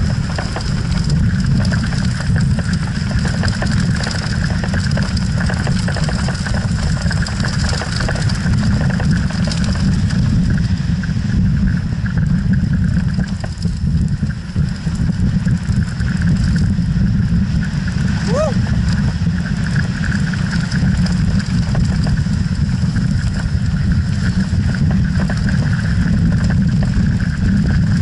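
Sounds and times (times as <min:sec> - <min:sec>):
bike tyres rattling on stony trail: 0:00.0 - 0:28.0
wind buffeting microphone: 0:00.0 - 0:28.0.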